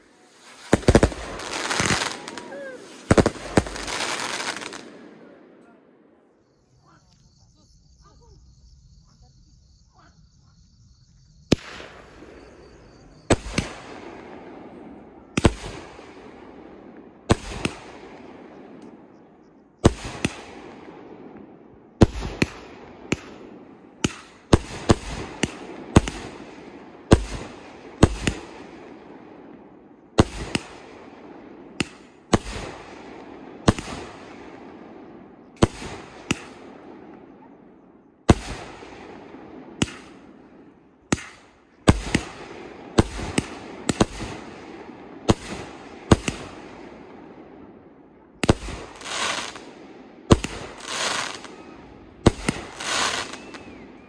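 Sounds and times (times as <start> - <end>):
fireworks bangs: 0.0 - 6.0, 11.4 - 19.1, 19.8 - 47.6, 48.3 - 54.0.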